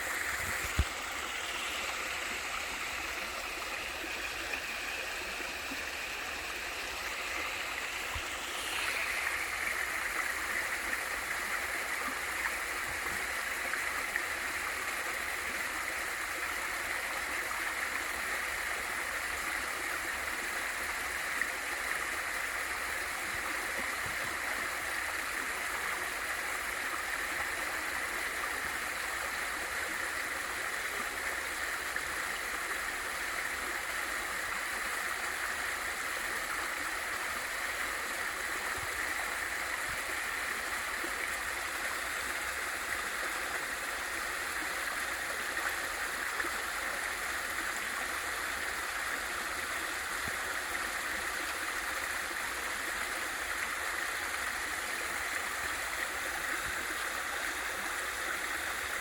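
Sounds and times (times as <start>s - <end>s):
small waterfall rushing and splashing: 0.0s - 59.0s.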